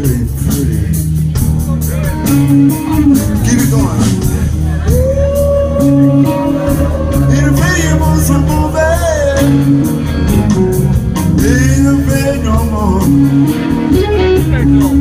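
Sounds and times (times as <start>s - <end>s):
bass line: 0.0s - 15.0s
drums with cymbal strokes: 0.0s - 15.0s
electric guitar bending notes: 0.0s - 15.0s.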